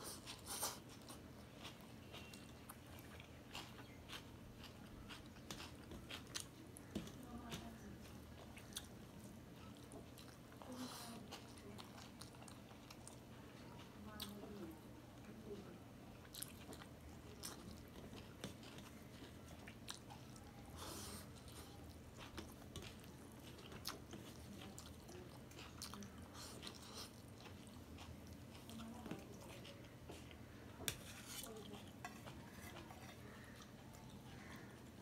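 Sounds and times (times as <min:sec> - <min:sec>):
person chewing: 0:00.0 - 0:14.4, 0:16.2 - 0:35.0.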